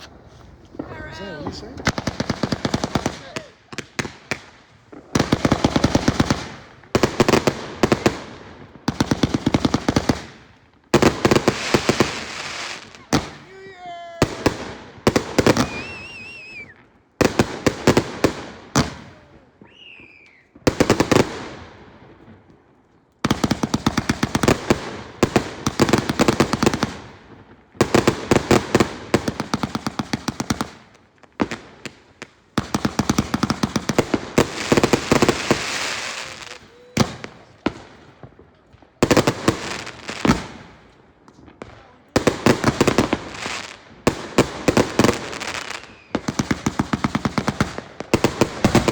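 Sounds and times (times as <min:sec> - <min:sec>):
fireworks crackling bangs: 0:00.0 - 0:48.9.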